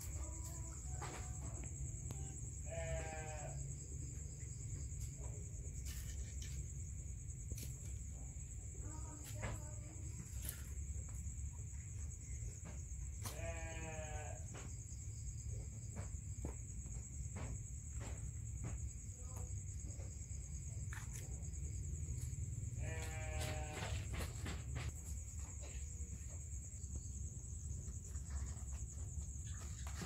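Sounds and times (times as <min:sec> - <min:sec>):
high insect chorus: 0:00.0 - 0:30.0.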